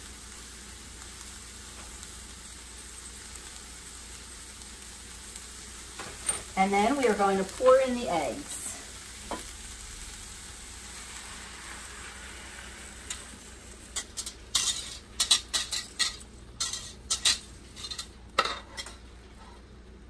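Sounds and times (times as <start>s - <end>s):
eggs sizzling in a skillet: 0.0s - 20.0s.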